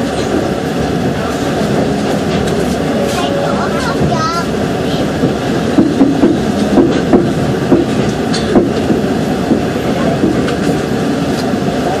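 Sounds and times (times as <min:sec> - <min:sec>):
train wheels rumbling on track: 0:00.0 - 0:12.0
wheels clacking over rail joints: 0:00.0 - 0:12.0.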